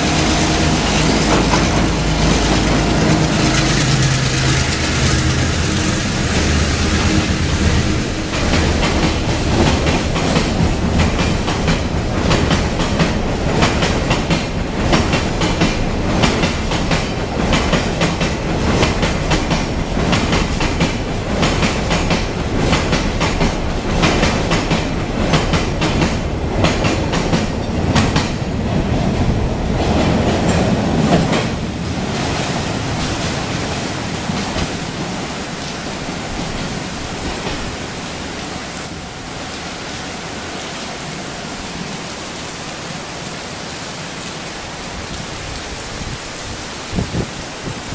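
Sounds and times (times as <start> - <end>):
freight train rolling past: 0.0 - 47.9.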